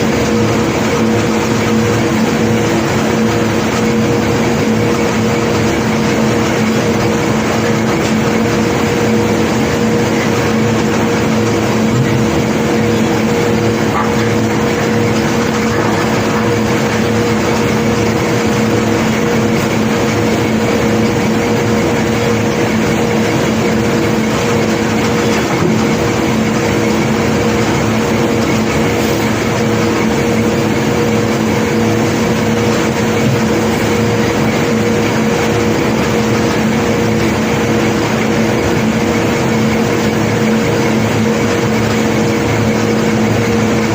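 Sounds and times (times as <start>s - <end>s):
heavy machinery engine humming: 0.0s - 43.9s.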